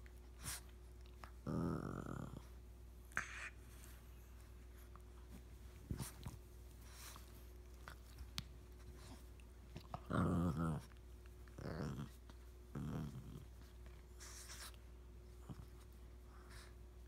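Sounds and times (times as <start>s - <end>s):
dogs play-growling: 0.4s - 4.0s, 4.8s - 16.8s.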